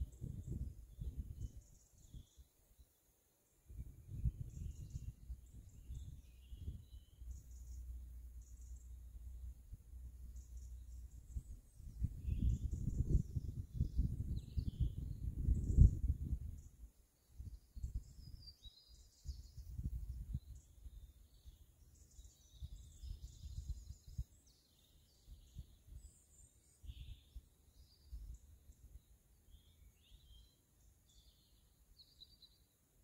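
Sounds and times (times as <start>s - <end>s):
wind rumbling on microphone: 0.0s - 2.5s, 3.7s - 30.4s
birds singing: 0.0s - 3.1s, 3.7s - 32.8s.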